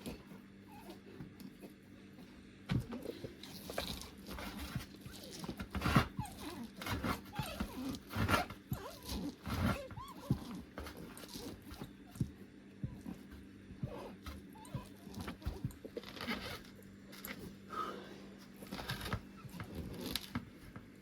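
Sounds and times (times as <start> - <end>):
animals crunching and rustling: 0.0 - 21.0.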